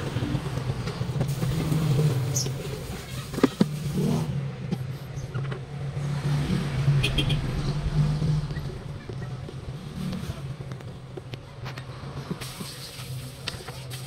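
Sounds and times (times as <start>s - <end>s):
engine humming: 0.0s - 13.7s.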